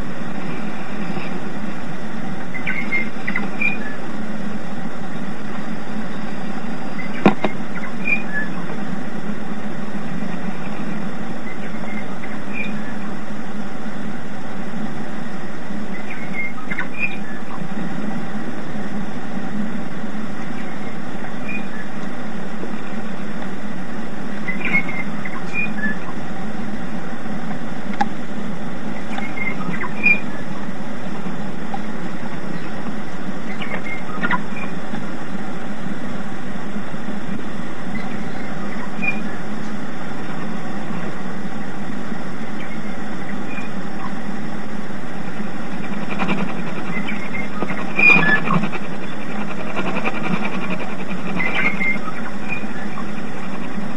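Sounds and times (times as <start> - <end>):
shortwave static and hum: 0.0 - 53.9.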